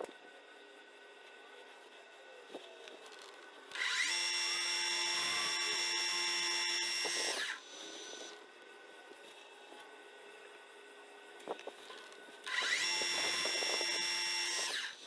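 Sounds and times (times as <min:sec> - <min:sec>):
lathe gear whine: 0:00.0 - 0:15.0.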